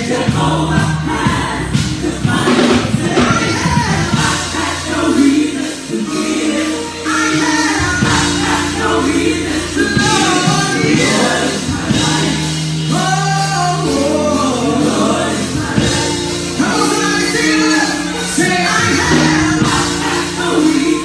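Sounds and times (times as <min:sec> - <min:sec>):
instrumental accompaniment: 0:00.0 - 0:21.0
women singing gospel in harmony: 0:00.0 - 0:21.0.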